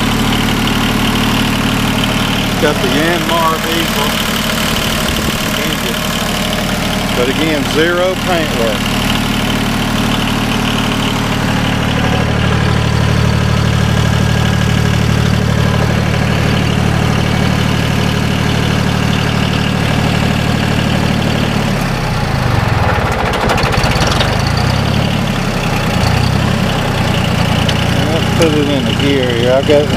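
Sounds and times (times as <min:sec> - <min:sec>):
tractor diesel engine idling: 0:00.0 - 0:29.9.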